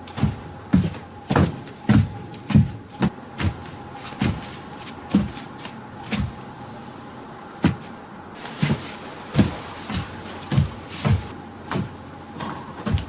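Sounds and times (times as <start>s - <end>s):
heavy footsteps on hard surface: 0.0s - 6.5s, 7.6s - 12.0s, 12.7s - 13.0s.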